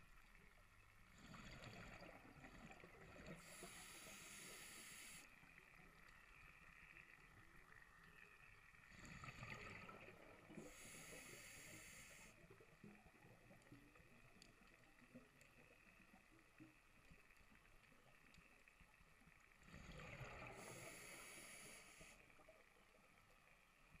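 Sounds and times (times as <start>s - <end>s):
faint underwater clicks: 0.0s - 24.0s.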